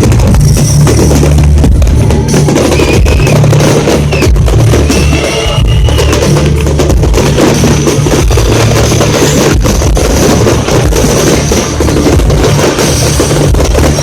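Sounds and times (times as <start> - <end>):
heavy bass: 0.0 - 14.0
live concert music: 0.0 - 14.0
pounding drum kit: 0.0 - 14.0.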